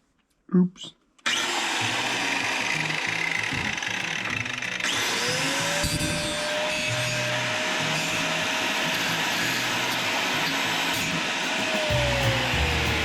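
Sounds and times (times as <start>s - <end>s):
power tool motor whining: 1.2s - 13.0s.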